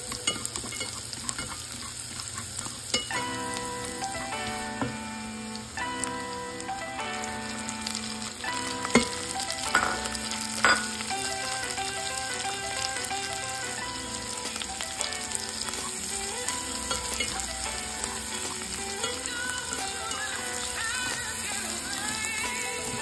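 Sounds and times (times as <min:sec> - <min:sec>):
shrimp sizzling in a hot pan: 0:00.0 - 0:23.0
soft background music: 0:00.0 - 0:23.0.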